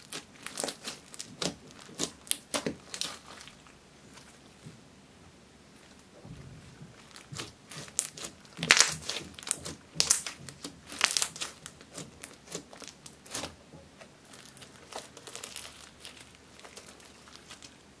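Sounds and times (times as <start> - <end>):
slime crackling and popping: 0.0 - 3.8, 7.0 - 17.8.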